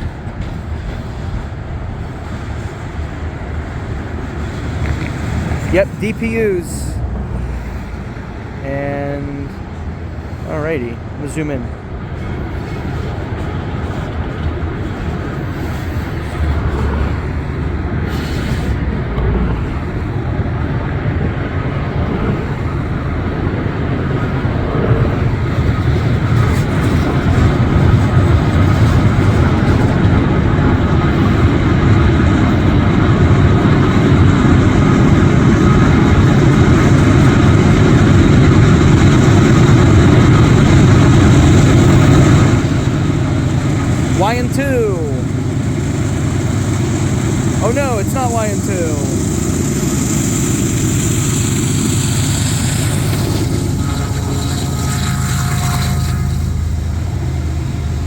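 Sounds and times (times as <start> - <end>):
freight train rolling past: 0.0 - 44.2, 45.0 - 47.6, 48.9 - 58.0
diesel locomotive engine rumble: 0.0 - 58.0.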